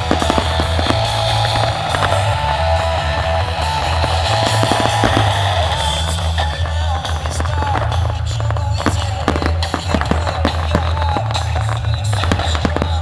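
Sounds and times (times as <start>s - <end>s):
fireworks banging and crackling: 0.0s - 13.0s
guitar-led rock music: 0.0s - 13.0s.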